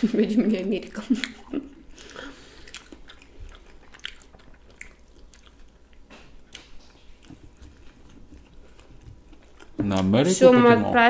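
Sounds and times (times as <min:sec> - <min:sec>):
people chewing and biting: 0:01.0 - 0:10.3.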